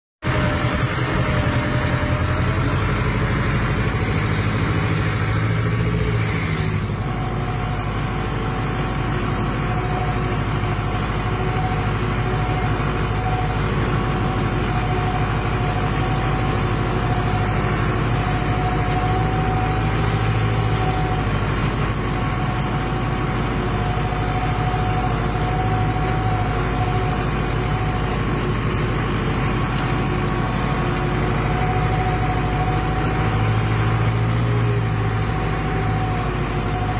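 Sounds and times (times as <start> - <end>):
steady whine: 0.2 - 36.9
tractor diesel engine running: 0.2 - 36.9.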